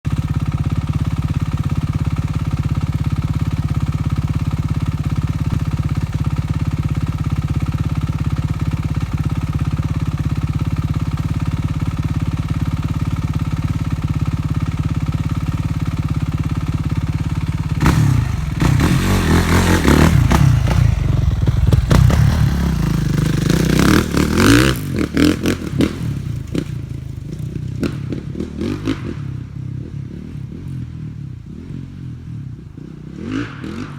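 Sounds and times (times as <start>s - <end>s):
dirt bike engine idling and revving: 0.0s - 33.9s.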